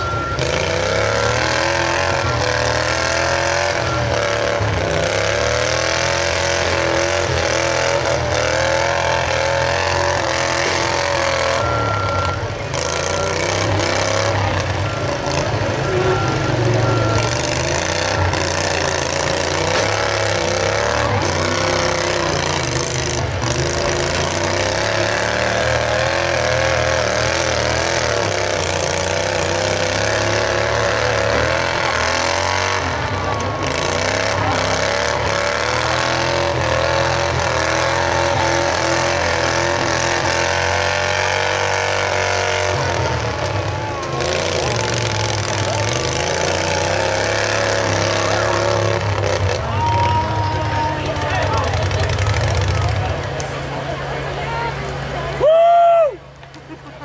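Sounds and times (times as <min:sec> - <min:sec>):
lawnmower engines revving: 0:00.0 - 0:57.0.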